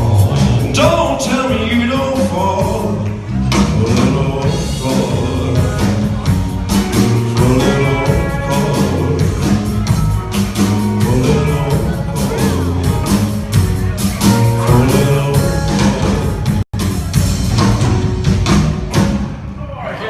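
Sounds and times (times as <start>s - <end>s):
person singing: 0.0s - 17.0s
rock band playing: 0.0s - 20.0s.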